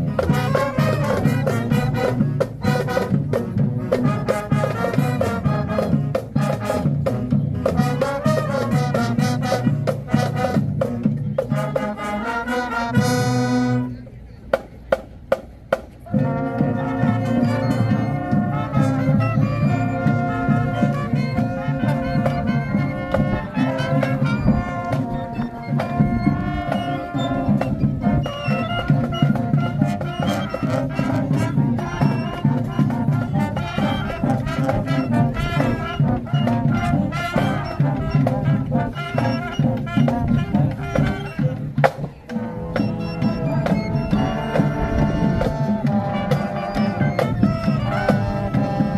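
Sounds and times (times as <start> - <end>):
marching band playing: 0.0 - 48.9.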